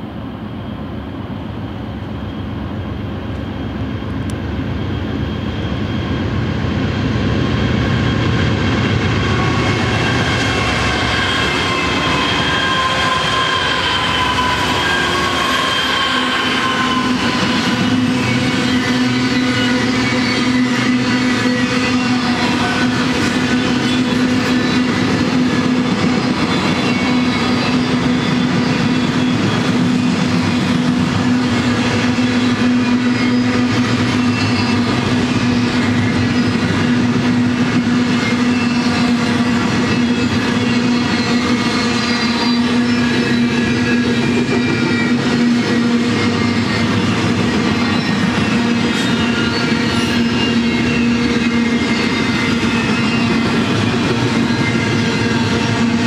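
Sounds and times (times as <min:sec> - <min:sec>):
steel train wheels on rails: 0:00.0 - 0:56.0
train cars rattling: 0:02.2 - 0:56.0.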